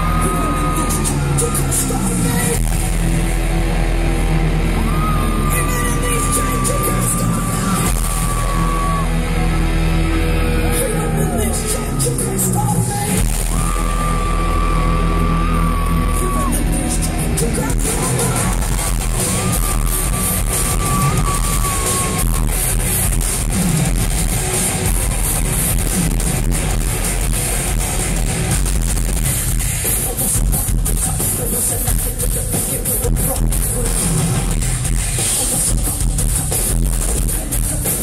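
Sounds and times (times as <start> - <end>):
heavy metal band playing live: 0.0 - 38.0.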